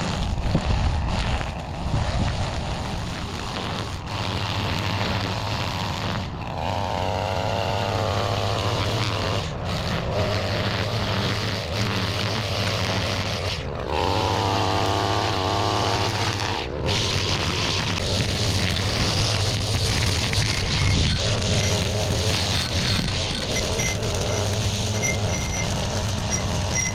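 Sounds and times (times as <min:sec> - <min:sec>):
high whine: 0:00.0 - 0:26.9
string trimmer cutting weeds: 0:00.0 - 0:26.9.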